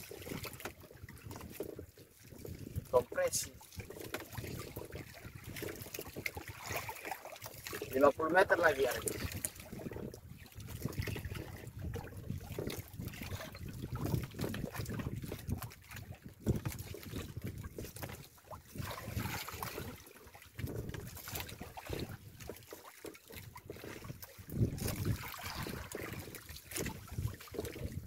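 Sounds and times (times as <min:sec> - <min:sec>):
wind gusts on microphone: 0:00.0 - 0:06.8, 0:07.7 - 0:20.0, 0:20.6 - 0:22.3, 0:23.7 - 0:28.0
waves slapping against boat hull: 0:00.0 - 0:28.0.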